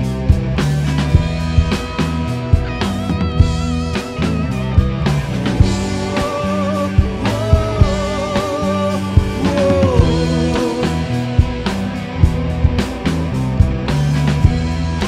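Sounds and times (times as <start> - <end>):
rock band playing live: 0.0 - 15.0
wavering lead melody: 1.2 - 15.0.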